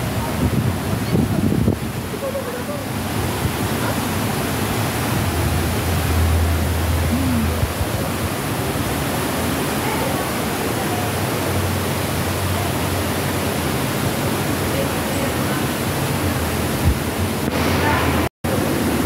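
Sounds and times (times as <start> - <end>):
steady rushing noise: 3.0 - 19.0.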